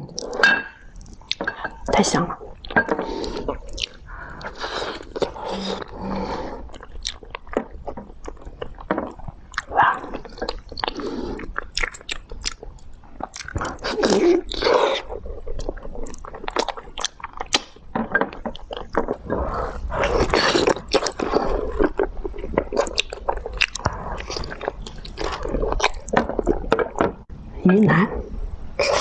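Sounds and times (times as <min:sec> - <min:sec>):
person chewing noisily: 0:00.0 - 0:27.3.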